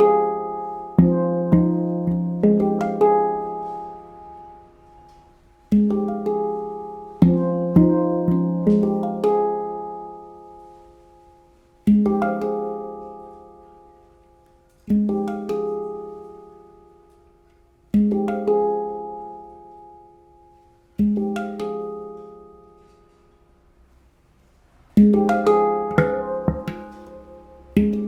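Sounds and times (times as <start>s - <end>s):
handpan notes ringing: 0.0s - 23.5s, 25.0s - 28.0s.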